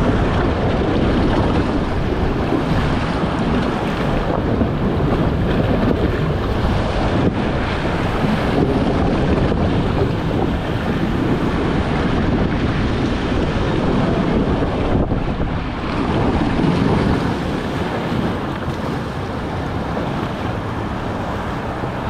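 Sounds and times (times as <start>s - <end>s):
water rushing down slide: 0.0s - 22.0s
wind buffeting microphone: 0.0s - 22.0s.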